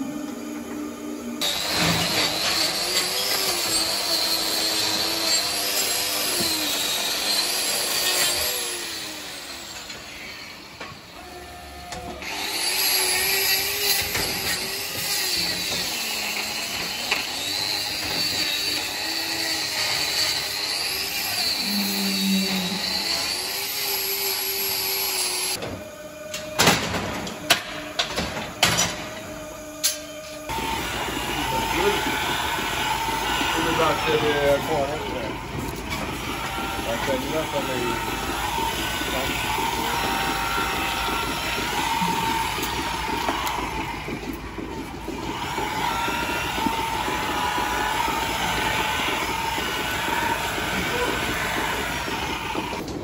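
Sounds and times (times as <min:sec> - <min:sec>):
angle grinder cutting hoof: 0:00.0 - 0:53.0.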